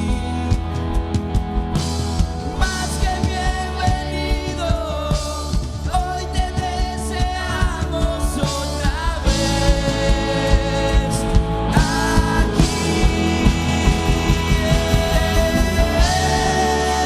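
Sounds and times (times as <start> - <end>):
person singing: 0.0 - 0.6, 2.5 - 17.0
worship band playing: 0.0 - 17.0.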